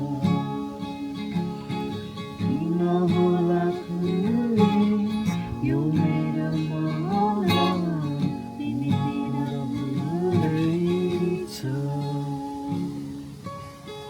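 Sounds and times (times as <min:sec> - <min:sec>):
person singing: 0:00.0 - 0:13.3
acoustic guitar strumming: 0:00.0 - 0:14.0.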